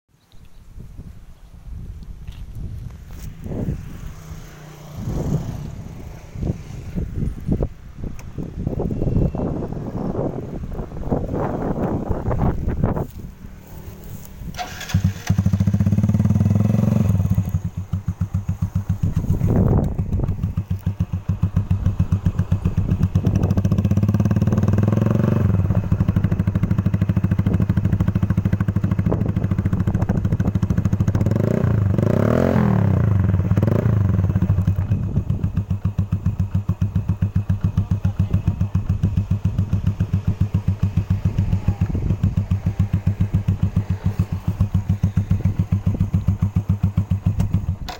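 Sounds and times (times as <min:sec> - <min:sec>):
motorcycle engine idling and revving: 0:00.7 - 0:47.9.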